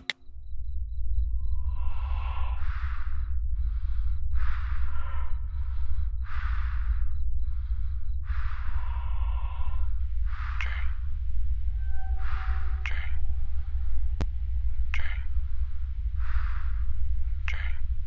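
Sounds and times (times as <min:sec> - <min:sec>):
deep low drone: 0:00.2 - 0:18.0
person breathing heavily: 0:01.6 - 0:18.0.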